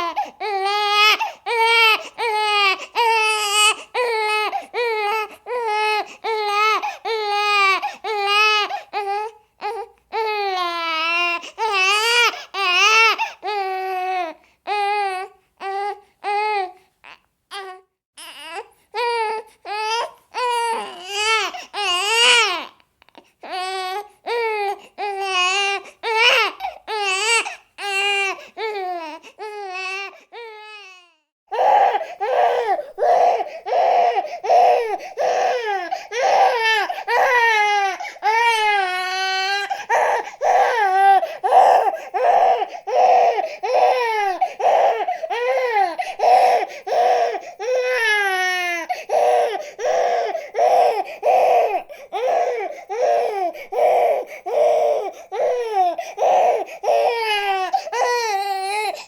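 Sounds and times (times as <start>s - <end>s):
baby crying: 0.0s - 59.0s.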